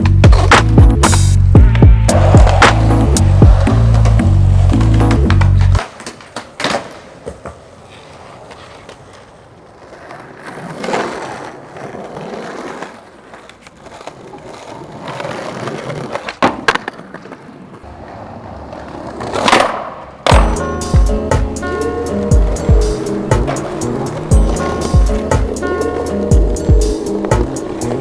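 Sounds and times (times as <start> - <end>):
skateboard clacks: 0.0 - 28.0
skateboard wheels rolling on pavement: 0.0 - 28.0.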